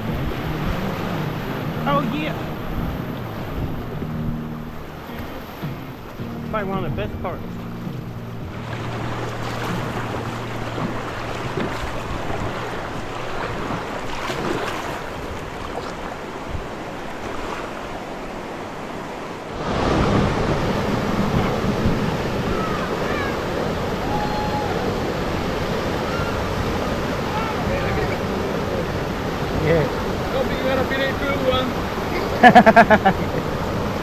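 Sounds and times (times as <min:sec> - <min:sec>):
river water rushing and splashing: 0:00.0 - 0:34.0.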